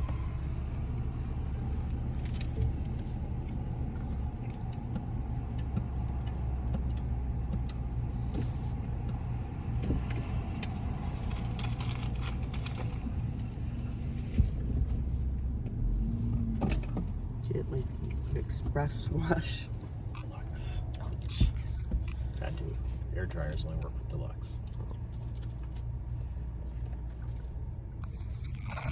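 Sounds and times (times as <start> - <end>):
car engine running: 0.0 - 28.9.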